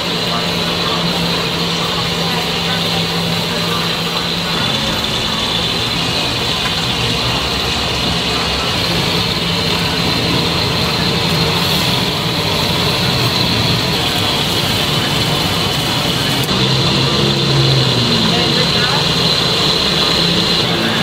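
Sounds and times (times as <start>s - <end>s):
engine hum: 0.0s - 21.0s.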